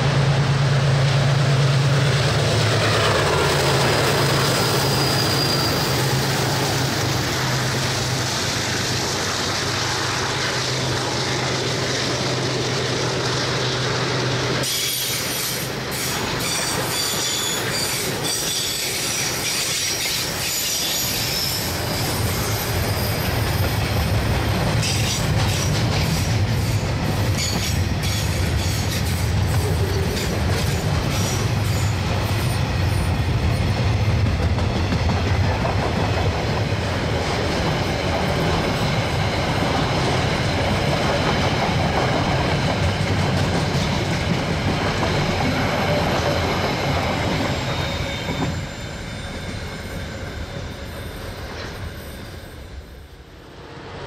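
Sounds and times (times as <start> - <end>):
train wheel squeal: 2.0 - 35.3, 36.0 - 54.0.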